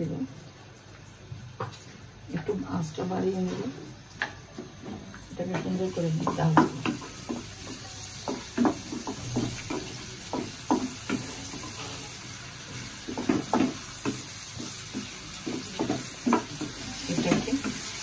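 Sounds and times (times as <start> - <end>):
onions sizzling in oil: 0.0 - 18.0
spatula scraping and tapping pan: 3.1 - 18.0.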